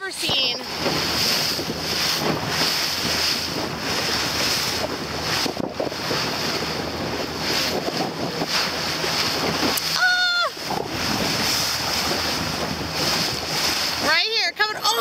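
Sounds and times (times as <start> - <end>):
water rushing past boat: 0.0 - 15.0
wind buffeting microphone: 0.0 - 15.0.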